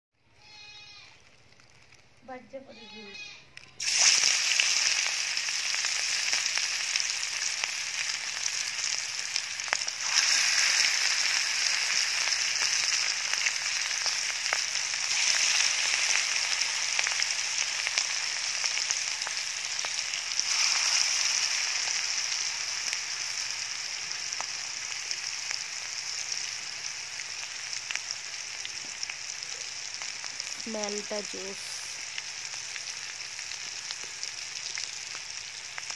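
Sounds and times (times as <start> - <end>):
paste sizzling in hot oil: 3.8 - 35.9.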